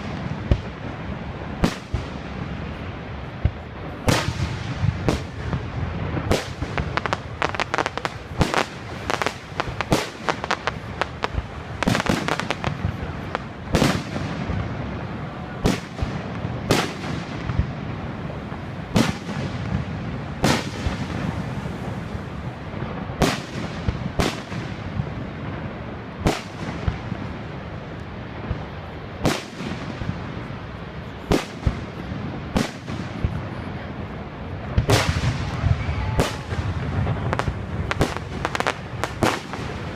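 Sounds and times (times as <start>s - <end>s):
fireworks bursting with booms: 0.0s - 39.9s.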